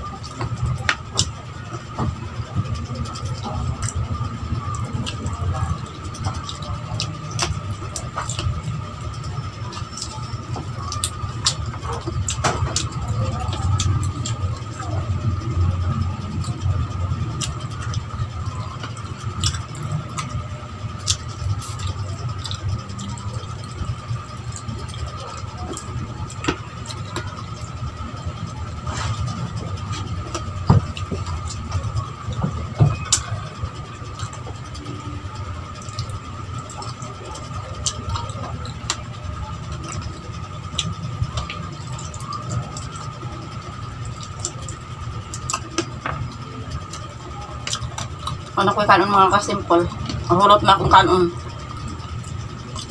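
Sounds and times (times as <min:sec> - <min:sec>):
chewing and lip-smacking: 0:00.0 - 0:48.6, 0:49.4 - 0:52.9
steady low hum: 0:00.0 - 0:52.9
thin steady whine: 0:00.0 - 0:52.9.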